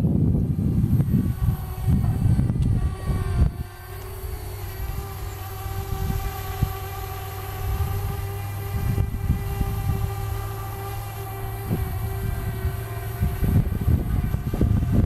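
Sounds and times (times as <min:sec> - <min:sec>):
quadcopter propellers whining: 0:00.0 - 0:15.0
wind rumble on microphone: 0:00.0 - 0:15.0.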